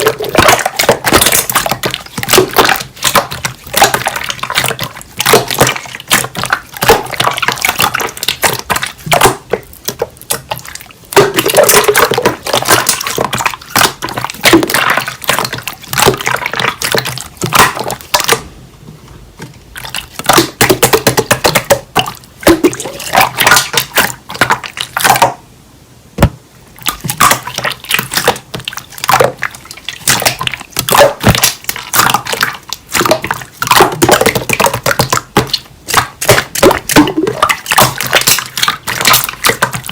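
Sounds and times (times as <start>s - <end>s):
hands squishing slime: 0.0s - 18.5s, 19.7s - 25.4s, 26.2s - 39.9s.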